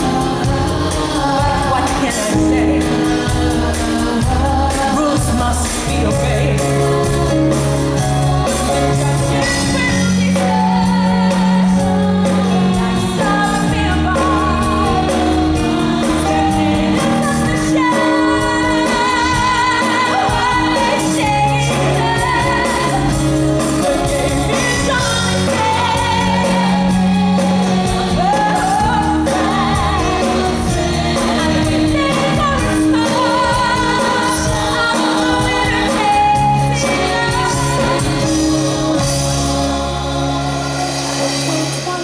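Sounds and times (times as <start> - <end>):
live pop band playing ballad: 0.0 - 42.0.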